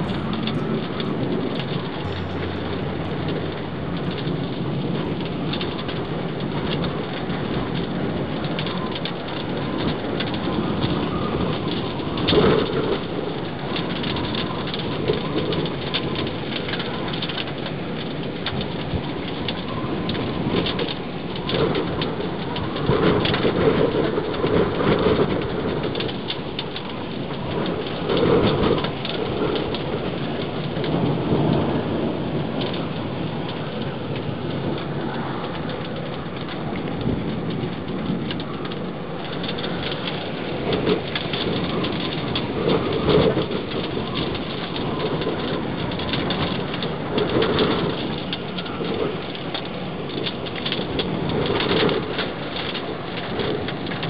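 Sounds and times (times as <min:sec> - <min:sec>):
low rumbling thunder: 0:00.0 - 0:54.0
rain pattering: 0:00.0 - 0:54.0.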